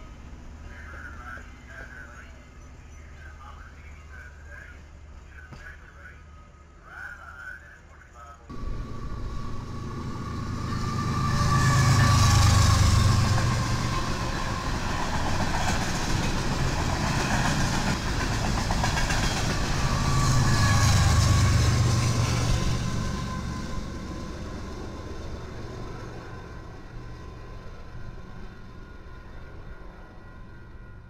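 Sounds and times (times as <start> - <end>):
train rumbling past: 0.0 - 7.8, 8.5 - 31.0.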